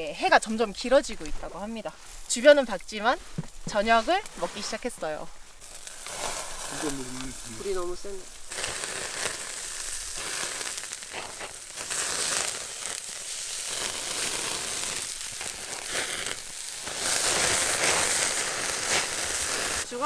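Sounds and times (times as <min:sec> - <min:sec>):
fire crackling: 0:00.0 - 0:20.0
pork sizzling on a grill: 0:00.0 - 0:20.0.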